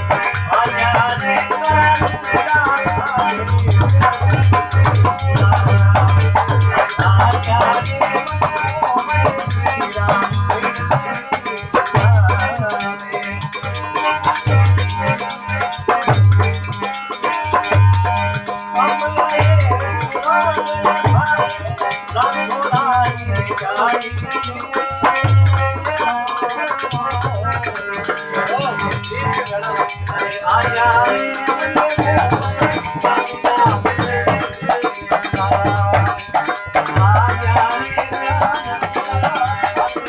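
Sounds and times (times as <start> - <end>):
wavering devotional melody: 0.0 - 40.0.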